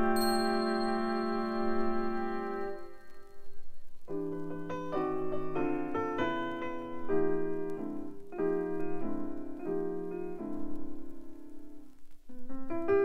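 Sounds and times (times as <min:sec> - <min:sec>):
jazz keyboard chords: 0:00.0 - 0:13.0.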